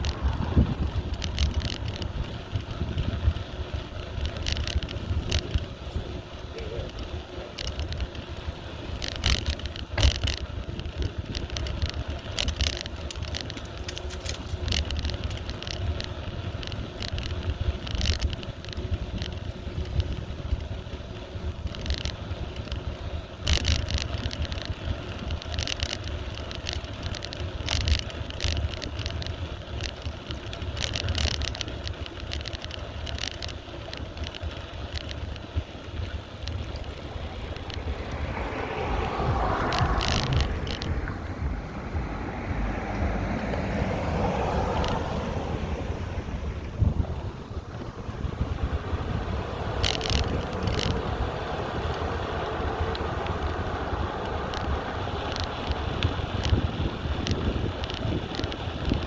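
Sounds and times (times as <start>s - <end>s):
bike clicks and rattles: 0.0s - 59.0s
wind rumble on microphone: 0.0s - 59.0s.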